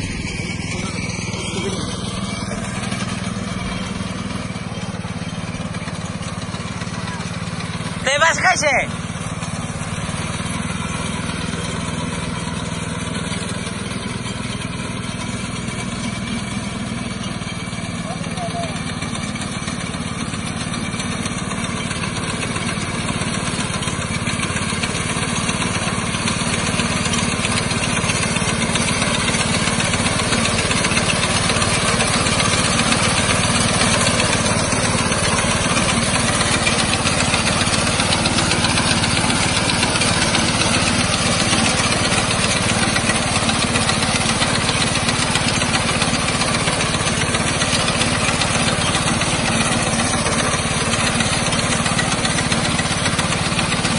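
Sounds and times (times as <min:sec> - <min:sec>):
small engine running steadily: 0:00.0 - 0:53.9.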